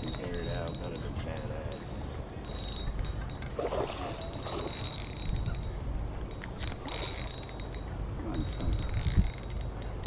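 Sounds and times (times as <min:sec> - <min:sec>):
fishing reel whirring and clicking: 0:00.0 - 0:10.0.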